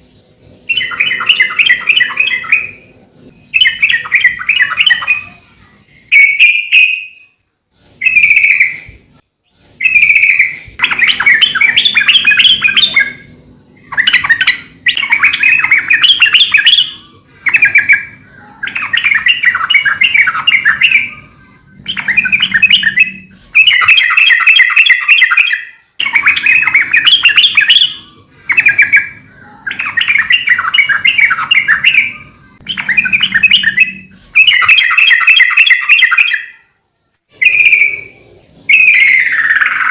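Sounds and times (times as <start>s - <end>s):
bulbul singing warbling phrases: 0.4s - 7.4s, 8.0s - 36.6s, 37.3s - 39.9s.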